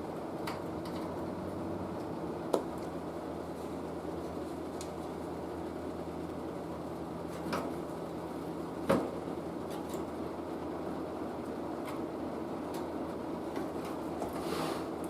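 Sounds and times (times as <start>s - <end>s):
tv set hum and hiss: 0.0s - 15.0s.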